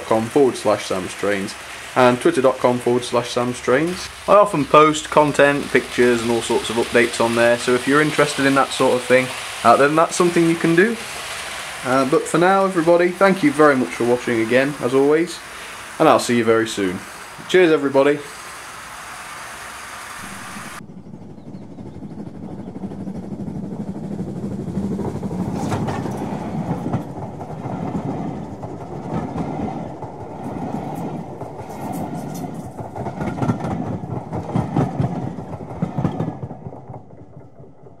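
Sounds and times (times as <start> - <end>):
train clicks and clatter: 0.0 - 20.8, 22.0 - 38.0
train wheels rumbling on rails: 0.0 - 38.0.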